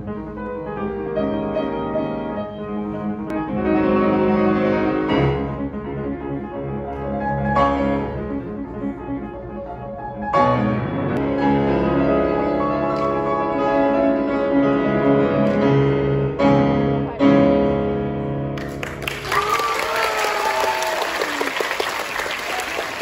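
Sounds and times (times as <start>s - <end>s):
grand piano chords: 0.0s - 19.2s.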